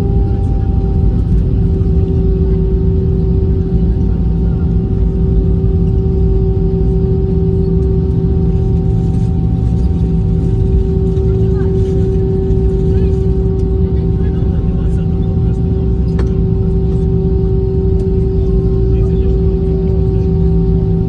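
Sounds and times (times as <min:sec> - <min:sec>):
engine and wheels rumble: 0:00.0 - 0:21.0
steady humming tone: 0:00.0 - 0:21.0.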